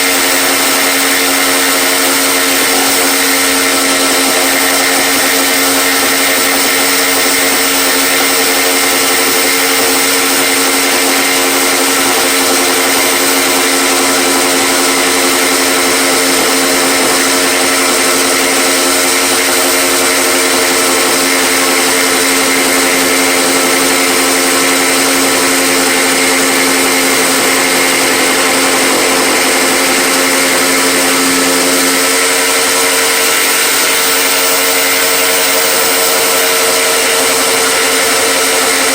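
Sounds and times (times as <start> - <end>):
power tool motor whining: 0.0 - 38.9.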